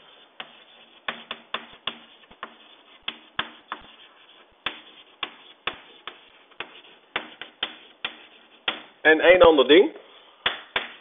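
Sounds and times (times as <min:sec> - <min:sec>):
chalk tapping on blackboard: 0:00.0 - 0:09.0, 0:10.4 - 0:11.0.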